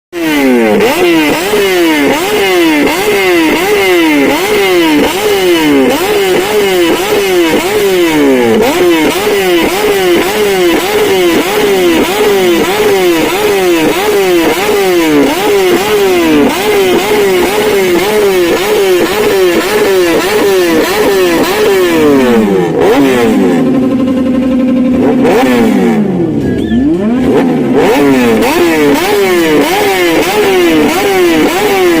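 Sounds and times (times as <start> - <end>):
motorcycle engine revving: 0.1 - 32.0.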